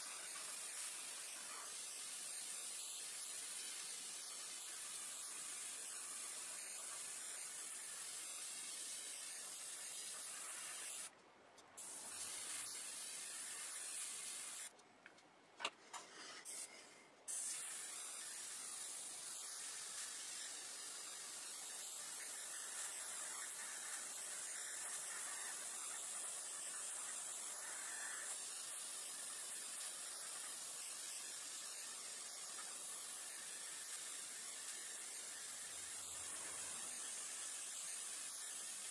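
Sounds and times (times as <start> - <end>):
airbrush hiss: 0.0 - 11.1, 11.8 - 14.7, 16.1 - 38.9.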